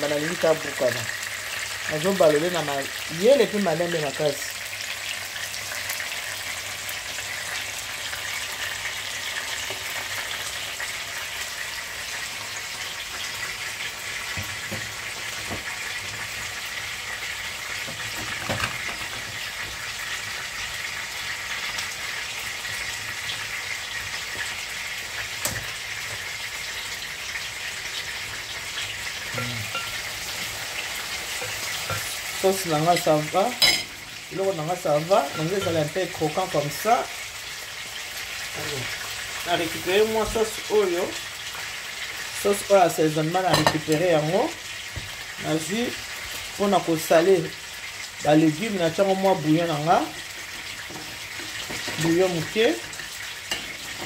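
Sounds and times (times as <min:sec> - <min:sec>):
fish sizzling in oil: 0:00.0 - 0:54.0.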